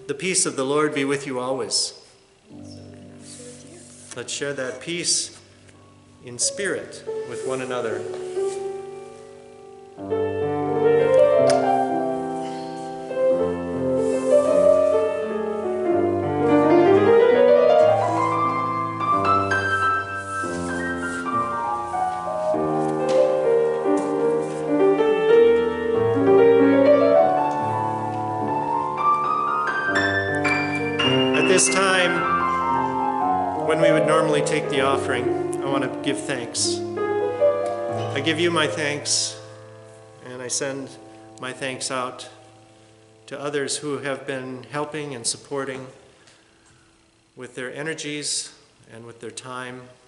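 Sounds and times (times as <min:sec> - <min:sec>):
grand piano playing arpeggios: 0:02.3 - 0:45.5.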